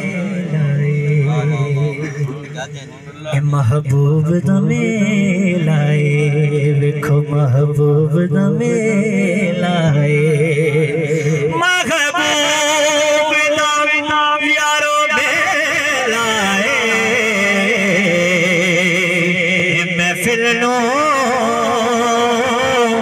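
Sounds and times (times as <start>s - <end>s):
man singing with vibrato: 0.0s - 2.6s, 3.3s - 23.0s.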